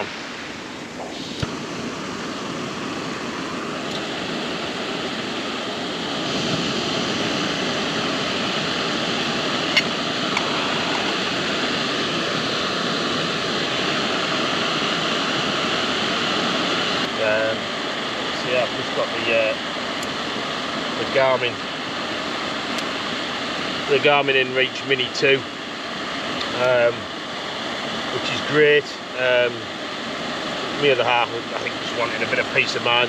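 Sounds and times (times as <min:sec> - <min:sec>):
gas burner hissing: 0:00.0 - 0:33.0.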